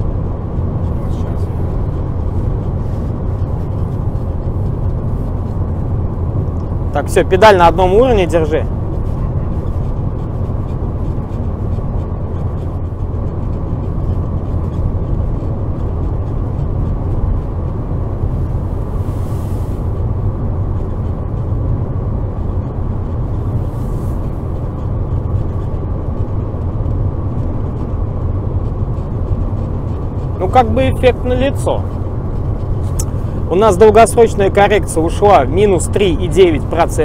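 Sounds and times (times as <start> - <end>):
car engine cruising: 0.0 - 37.0
tyre and road rumble: 0.0 - 37.0.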